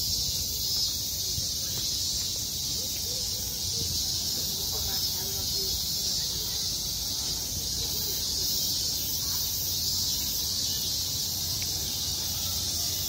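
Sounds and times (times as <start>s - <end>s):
cicadas chorus: 0.0s - 13.0s.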